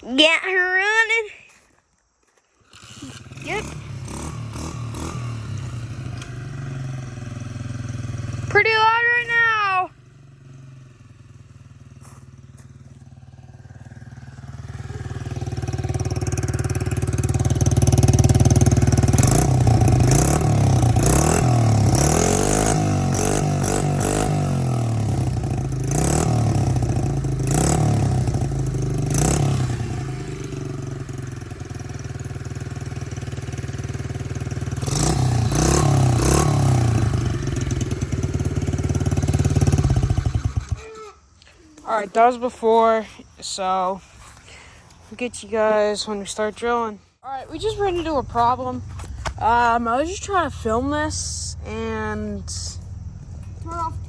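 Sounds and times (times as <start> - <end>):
motorbike engine revving: 2.6 - 54.0.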